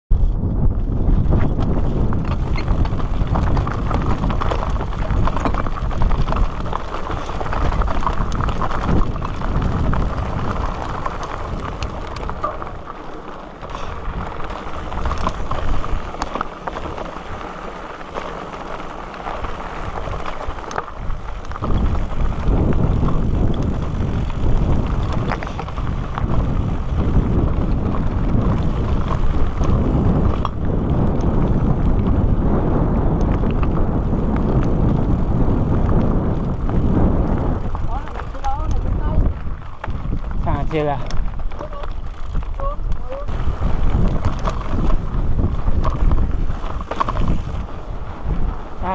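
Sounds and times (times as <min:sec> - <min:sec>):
bike rattling: 0:00.1 - 0:48.9
wind buffeting microphone: 0:00.1 - 0:48.9
tyres crunching over loose stones: 0:01.2 - 0:48.9.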